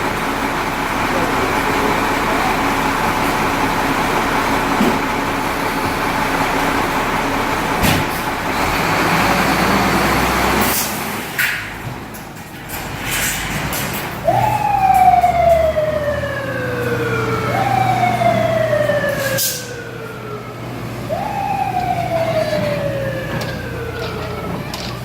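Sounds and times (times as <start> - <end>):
fire engine siren: 0.0 - 11.6, 13.7 - 25.0
truck engine running: 0.0 - 25.0.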